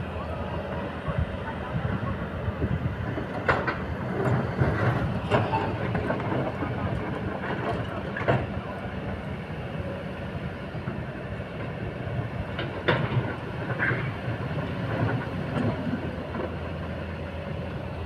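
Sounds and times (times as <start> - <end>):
excavator diesel engines running: 0.0 - 18.0.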